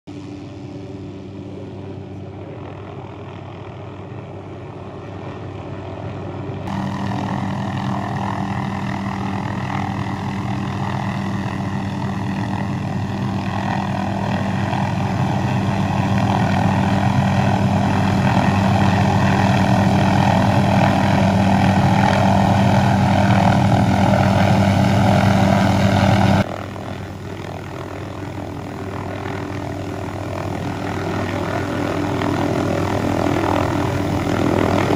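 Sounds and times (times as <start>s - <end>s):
helicopter rotor and turbine drone: 0.1s - 34.9s.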